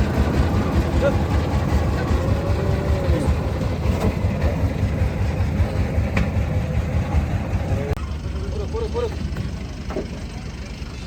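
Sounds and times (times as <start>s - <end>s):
heavy vehicle engine rumbling: 0.0s - 11.0s.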